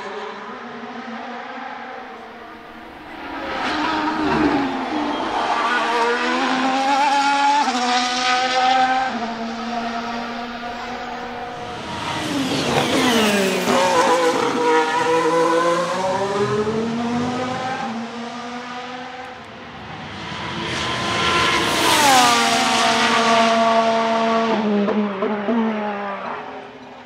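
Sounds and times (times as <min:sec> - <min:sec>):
racing car passing at speed: 0:00.0 - 0:26.9.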